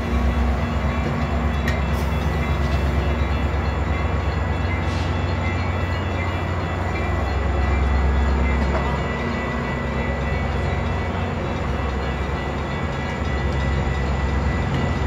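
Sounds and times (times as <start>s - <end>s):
diesel train rumbling by: 0.0s - 15.0s.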